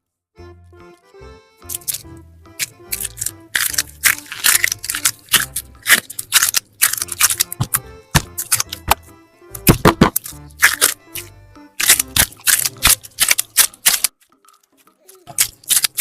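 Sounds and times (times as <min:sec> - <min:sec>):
soft background music: 0:00.4 - 0:16.0
slime clicking and crackling: 0:01.7 - 0:09.0, 0:09.7 - 0:16.0.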